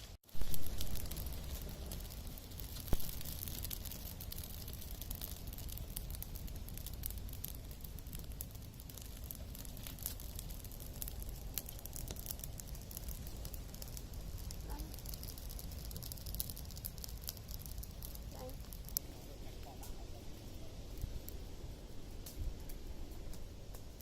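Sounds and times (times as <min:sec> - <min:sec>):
low steady rumble: 0:00.0 - 0:24.0
wood fire crackling: 0:00.0 - 0:24.0.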